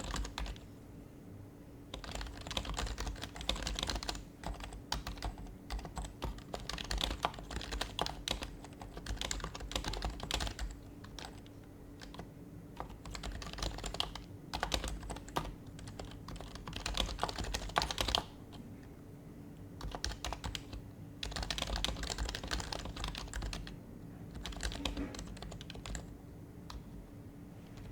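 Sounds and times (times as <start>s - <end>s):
soft keyboard typing: 0.0s - 0.8s, 1.9s - 18.9s, 19.7s - 27.0s, 27.6s - 27.9s.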